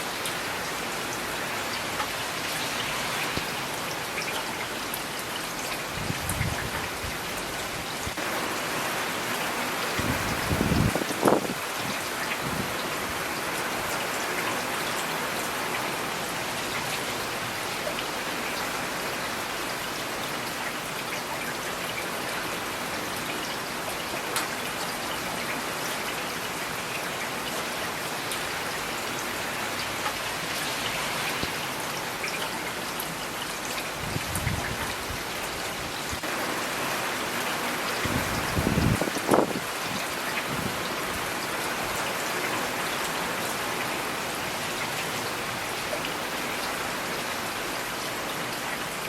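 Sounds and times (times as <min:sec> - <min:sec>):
steady rain falling: 0:00.0 - 0:49.0
raindrops ticking on a surface: 0:00.2 - 0:08.5, 0:09.2 - 0:49.0.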